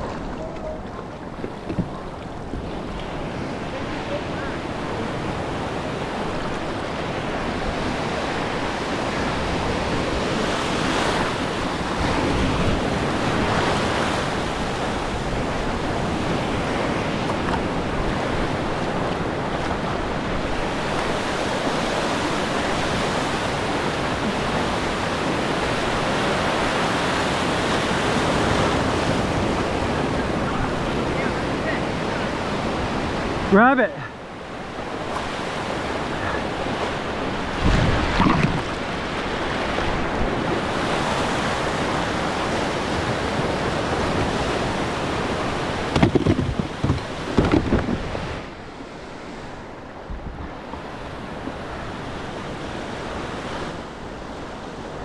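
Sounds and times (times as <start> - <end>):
wind buffeting microphone: 0.0 - 33.5, 34.4 - 55.0
ocean waves breaking: 0.0 - 55.0.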